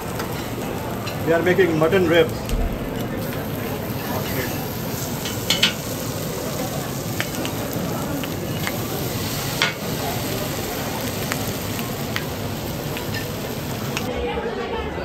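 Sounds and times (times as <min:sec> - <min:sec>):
meat sizzling on a griddle: 0:00.0 - 0:14.1.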